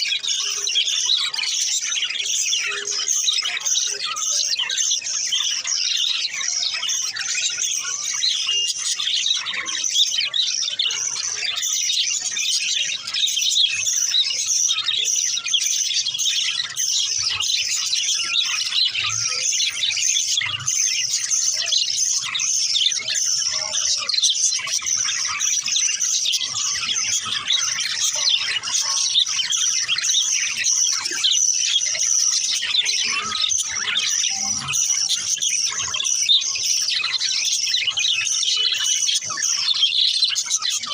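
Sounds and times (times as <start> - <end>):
budgerigars chirping: 0.1 - 40.9.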